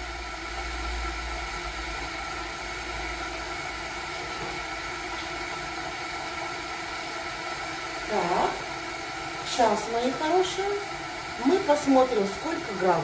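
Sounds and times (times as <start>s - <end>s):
kettle hissing and rumbling: 0.0s - 13.0s.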